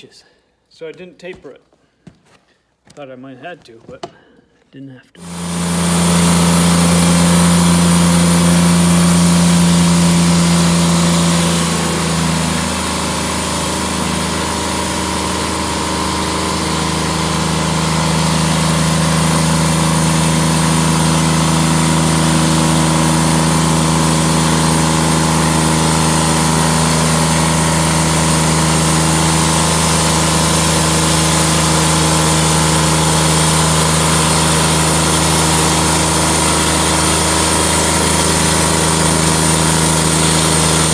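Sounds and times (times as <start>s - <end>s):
bandsaw sawmill engine running: 5.2s - 40.9s.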